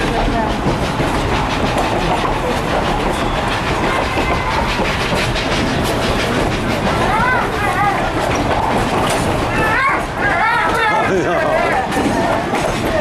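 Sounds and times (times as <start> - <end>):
train cars rumbling and rattling: 0.0 - 13.0
wheels clacking over rail joints: 0.0 - 13.0.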